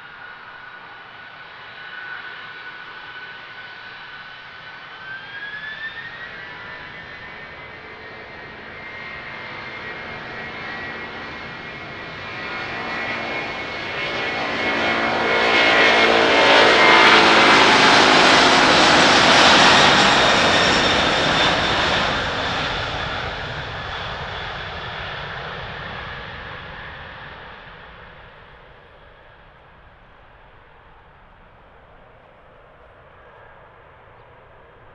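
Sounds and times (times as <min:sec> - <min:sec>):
jet airliner taking off: 0:00.0 - 0:34.9
whining jet engine tones: 0:00.0 - 0:34.9.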